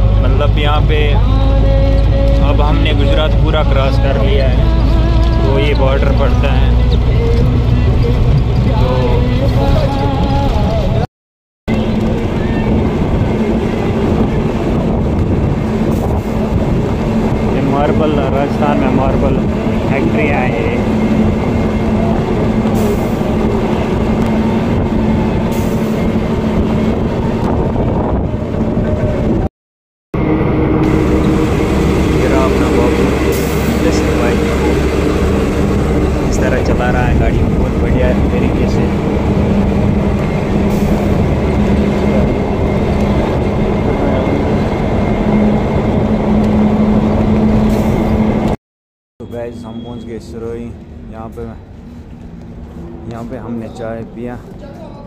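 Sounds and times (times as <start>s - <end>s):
road rumble: 0.0s - 11.1s, 11.7s - 29.5s, 30.2s - 48.6s, 49.2s - 55.0s
truck engine drone: 0.0s - 11.1s, 11.7s - 29.5s, 30.2s - 48.6s, 49.2s - 55.0s.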